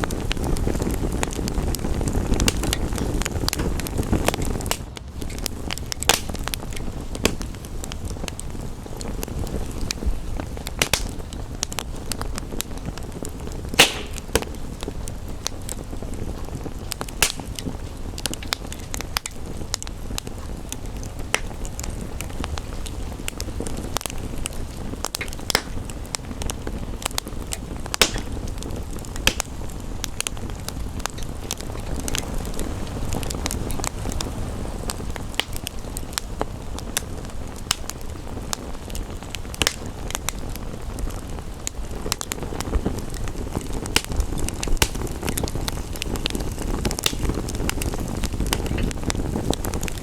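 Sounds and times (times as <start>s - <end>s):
fire pops: 0.0s - 50.0s
wood fire crackling: 0.0s - 50.0s.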